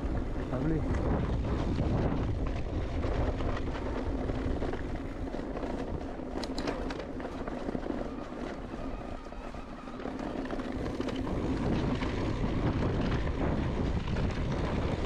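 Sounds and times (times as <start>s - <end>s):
bike tyre rumble on trail: 0.0s - 15.0s
wind rushing over microphone: 0.0s - 15.0s.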